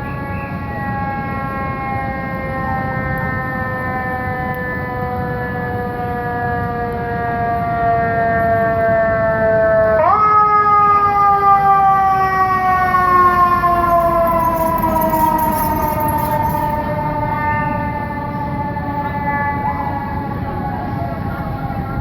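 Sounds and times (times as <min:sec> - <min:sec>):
city traffic: 0:00.0 - 0:22.0
fire engine siren wailing: 0:00.0 - 0:22.0.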